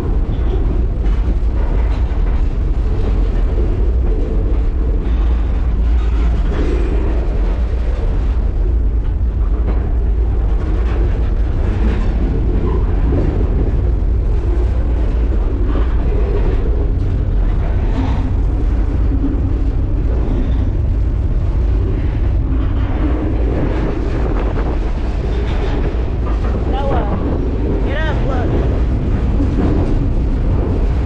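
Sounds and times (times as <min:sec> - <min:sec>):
freight train rumble: 0:00.0 - 0:31.0
wind buffeting microphone: 0:00.0 - 0:31.0.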